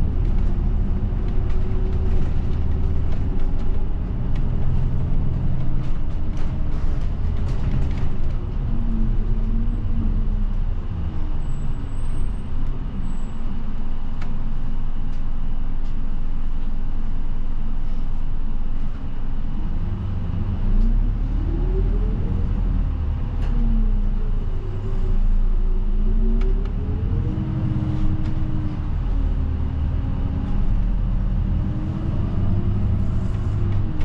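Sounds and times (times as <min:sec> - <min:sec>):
bus engine: 0:00.0 - 0:34.0
road rumble: 0:00.0 - 0:34.0.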